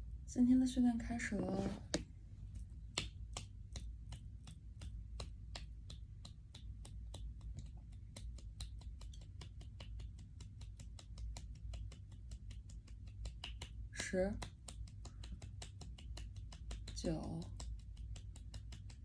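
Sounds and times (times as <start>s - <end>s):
quick hand claps: 2.9s - 19.0s.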